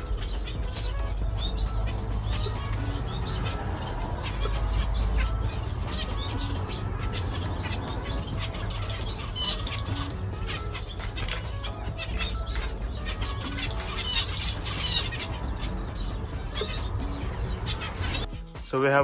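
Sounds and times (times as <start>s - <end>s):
steady low rumble: 0.0s - 18.3s
finches chirping: 0.0s - 19.0s
wings fluttering: 0.0s - 19.0s.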